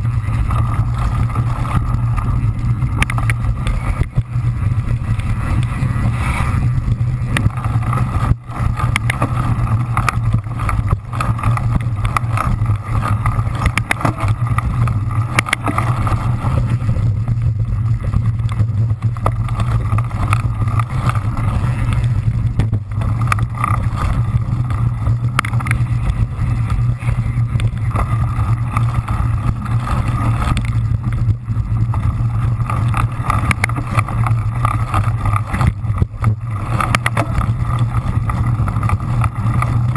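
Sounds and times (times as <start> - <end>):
bike knocks and rattles: 0.0 - 39.9
bike tyres rumbling on dirt: 0.0 - 39.9.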